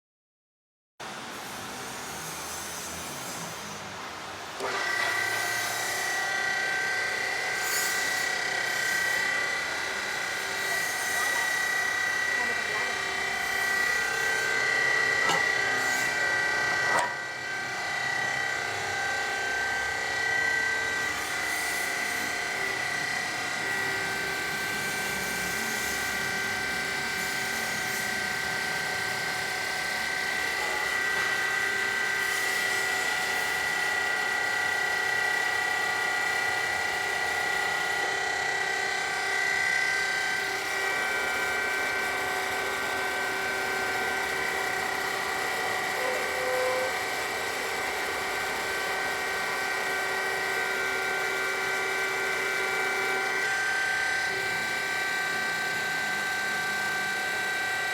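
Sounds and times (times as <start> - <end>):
motor whining: 4.6 - 57.9.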